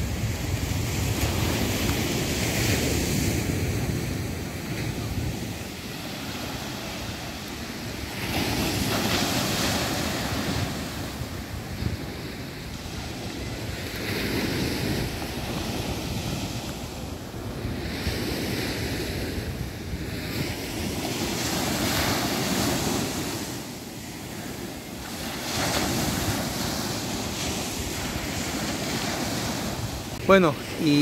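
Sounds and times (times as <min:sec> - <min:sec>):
sea waves breaking on shore: 0:00.0 - 0:31.0
wind buffeting microphone: 0:00.0 - 0:31.0.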